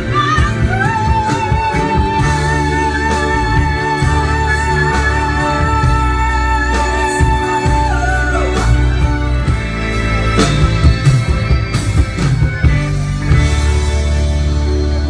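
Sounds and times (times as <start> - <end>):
rock song over sound system: 0.0 - 15.0.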